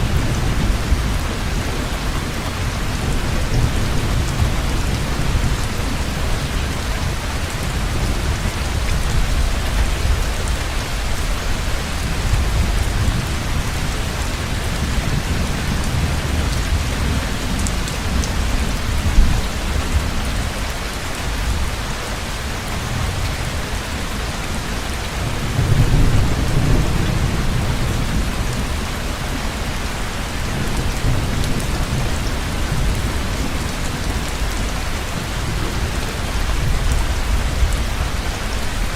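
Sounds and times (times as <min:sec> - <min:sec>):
low rolling thunder: 0:00.0 - 0:20.6, 0:24.2 - 0:38.9
heavy rain falling: 0:00.0 - 0:38.9.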